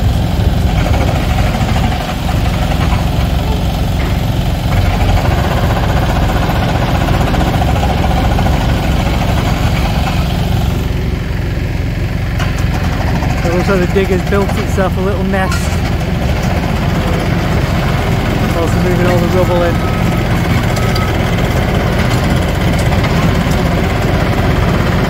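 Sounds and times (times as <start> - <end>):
diesel engines droning: 0.0 - 25.0.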